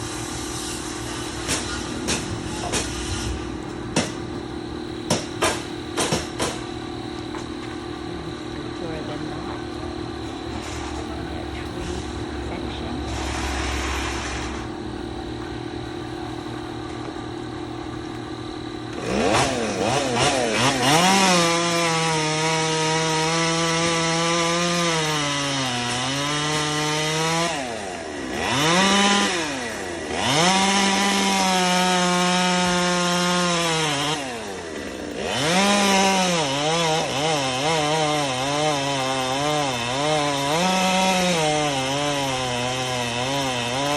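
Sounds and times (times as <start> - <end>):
chainsaw cutting tree limbs: 0.0 - 43.9.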